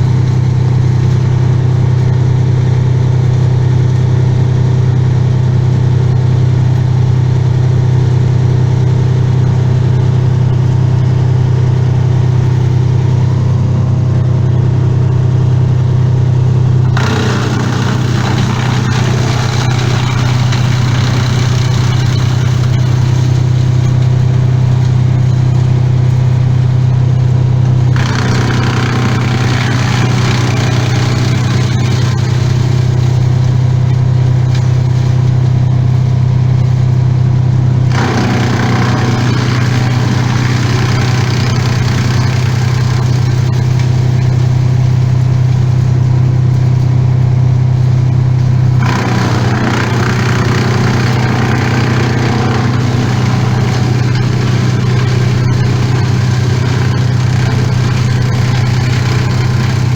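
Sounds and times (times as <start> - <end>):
small engine running: 0.0 - 36.1, 37.8 - 59.9.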